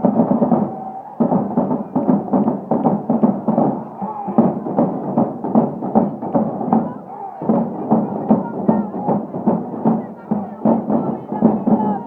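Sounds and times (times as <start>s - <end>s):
marching band music: 0.0s - 12.0s
steady drumbeat: 0.0s - 12.0s.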